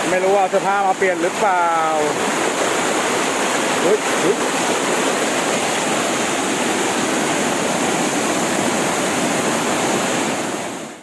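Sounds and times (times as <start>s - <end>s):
water rushing over waterfall: 0.0s - 11.0s.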